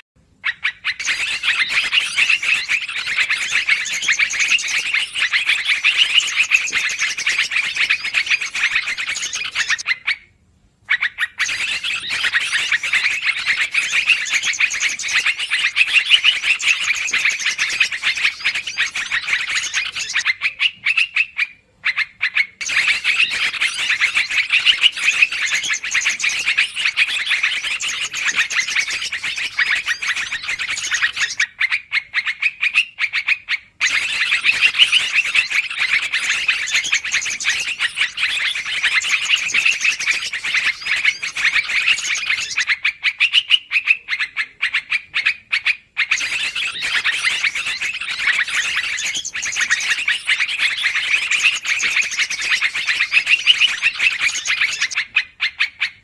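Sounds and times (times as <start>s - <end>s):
bulbuls chattering: 0.7s - 9.8s, 11.4s - 20.9s, 21.9s - 31.4s, 33.8s - 42.8s, 46.0s - 55.1s.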